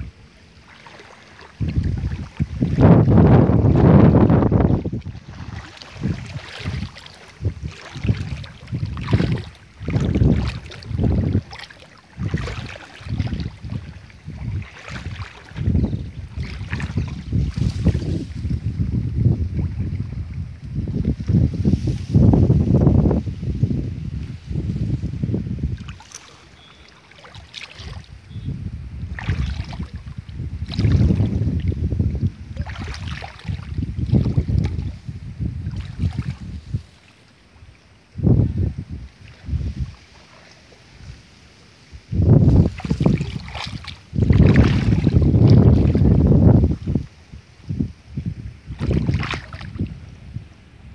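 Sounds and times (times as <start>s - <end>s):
wind buffeting microphone: 0.0s - 37.0s, 37.6s - 40.2s, 40.9s - 50.9s.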